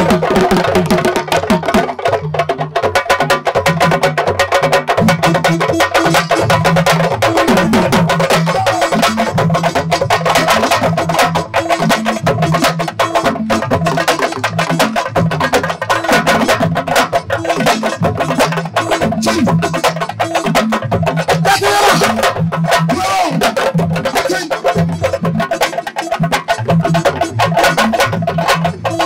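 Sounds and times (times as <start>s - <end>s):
fast dense drumming: 0.0s - 29.0s.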